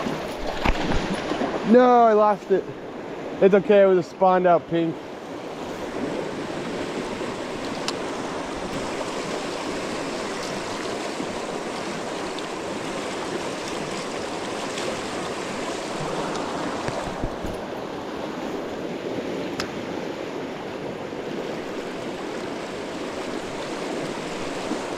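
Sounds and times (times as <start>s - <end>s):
creek water rushing: 0.0s - 24.9s.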